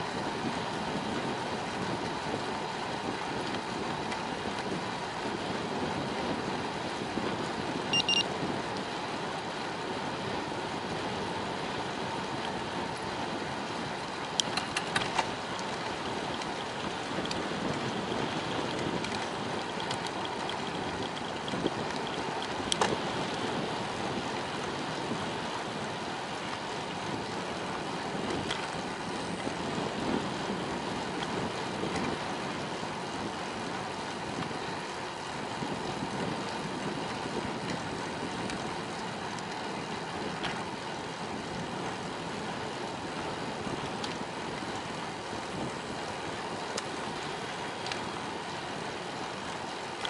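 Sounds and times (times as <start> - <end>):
bicycle tyres rolling on pavement: 0.0 - 50.0
wind: 0.0 - 50.0.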